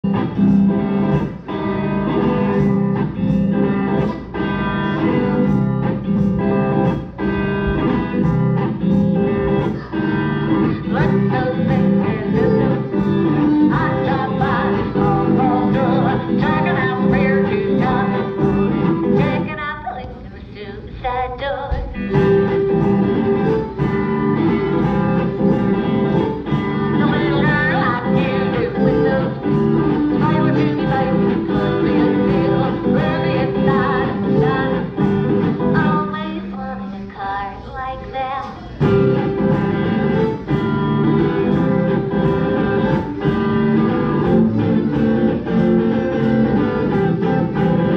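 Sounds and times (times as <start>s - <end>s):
violin and guitar playing: 0.1s - 19.6s, 22.2s - 36.1s, 38.9s - 47.9s
person singing: 9.2s - 47.9s.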